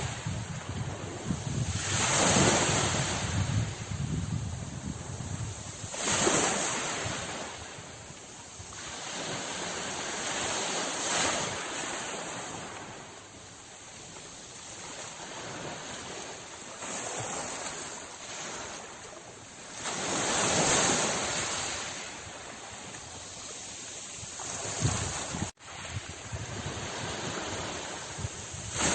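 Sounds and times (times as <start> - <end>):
sea waves washing onto shore: 0.0 - 28.9.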